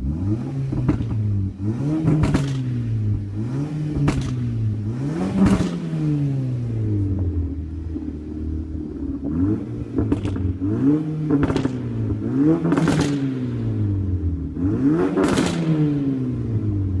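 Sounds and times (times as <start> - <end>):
car engine revving: 0.0 - 17.0
exhaust crackles and pops: 0.6 - 13.8, 14.5 - 16.0.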